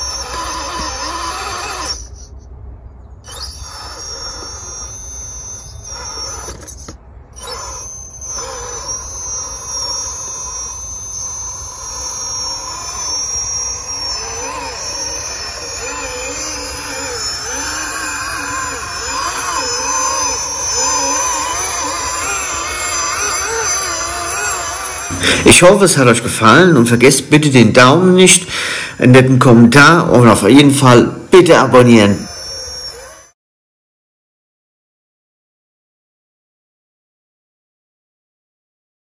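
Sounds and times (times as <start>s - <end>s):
toy truck motor whining: 0.0s - 2.6s, 3.2s - 33.4s.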